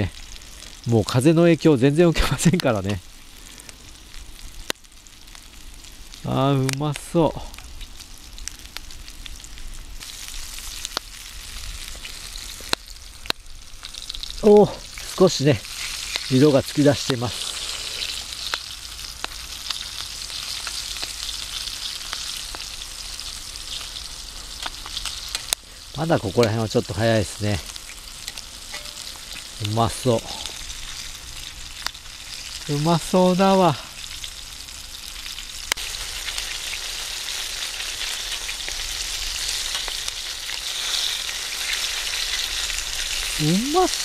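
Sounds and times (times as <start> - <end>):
chicken wings frying in oil: 0.0 - 44.0.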